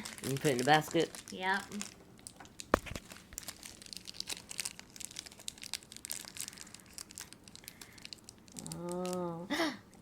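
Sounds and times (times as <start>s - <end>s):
plastic packaging crinkling and tearing: 0.0s - 9.4s.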